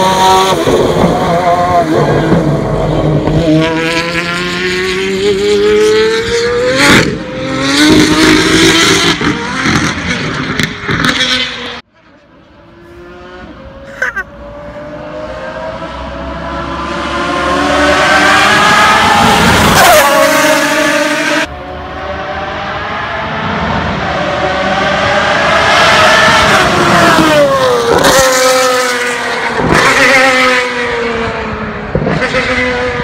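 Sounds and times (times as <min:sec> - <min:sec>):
car engine accelerating hard: 0:00.0 - 0:33.0
distant car approaching: 0:00.0 - 0:33.0.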